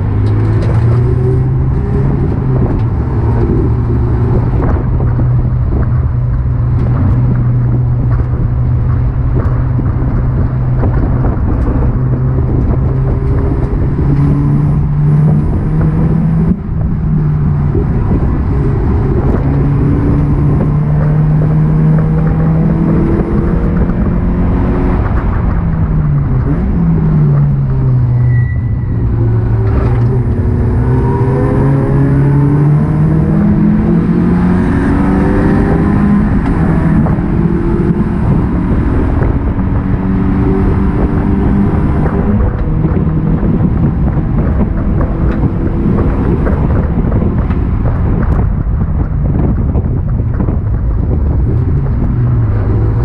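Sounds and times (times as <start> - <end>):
race car engine: 0.0 - 53.0
road and drivetrain noise: 0.0 - 53.0.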